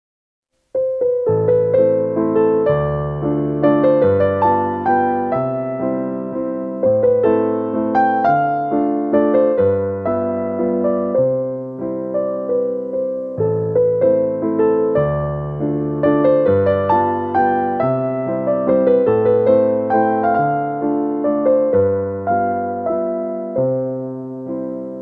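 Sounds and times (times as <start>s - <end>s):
keyboard melody with bass: 0.8s - 25.0s.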